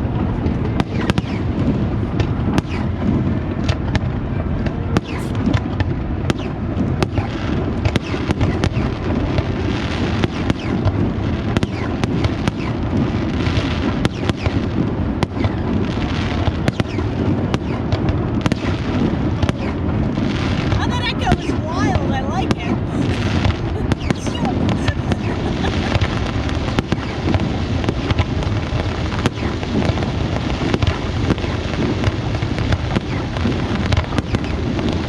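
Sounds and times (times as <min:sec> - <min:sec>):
fireworks bangs and crackles: 0:00.0 - 0:35.0
low rumble of booms: 0:00.0 - 0:35.0.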